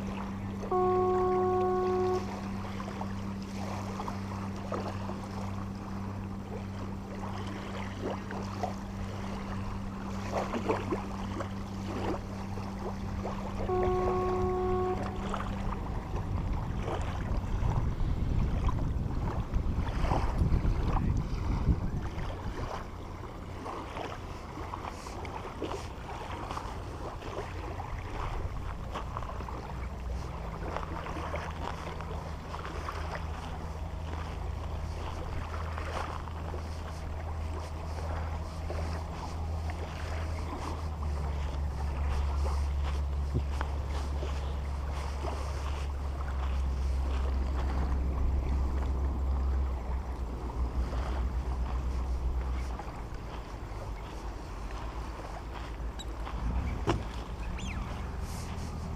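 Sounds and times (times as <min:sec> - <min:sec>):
boat engine humming: 0:00.0 - 0:58.9
wind buffeting microphone: 0:08.3 - 0:58.9.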